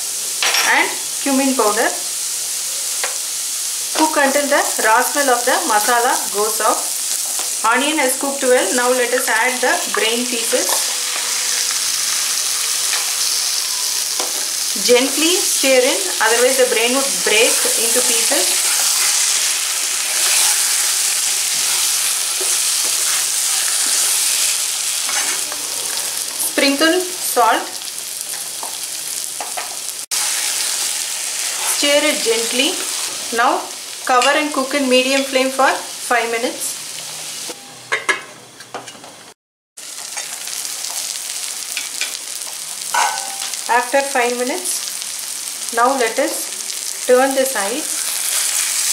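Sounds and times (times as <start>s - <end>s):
food sizzling in hot oil: 0.0s - 37.6s, 39.8s - 48.9s.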